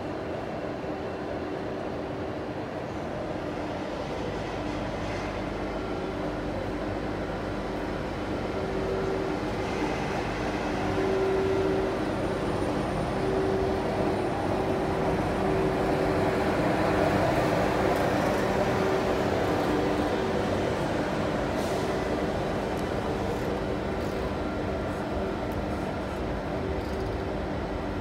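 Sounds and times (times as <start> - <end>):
train running hum with whine: 0.0 - 28.0.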